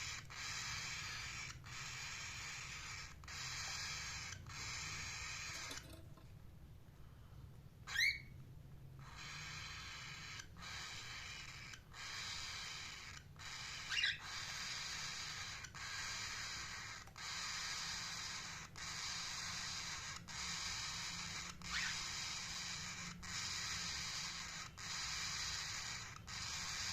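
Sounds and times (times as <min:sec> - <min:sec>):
parrot chirps: 0:00.0 - 0:06.2, 0:07.8 - 0:26.9.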